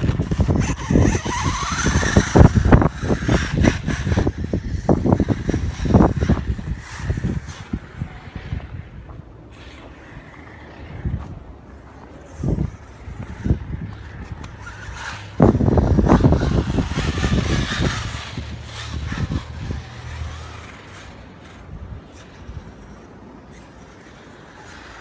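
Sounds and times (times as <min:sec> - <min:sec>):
electric rc truck driving: 0:00.0 - 0:25.0
wind buffeting microphone: 0:00.0 - 0:25.0.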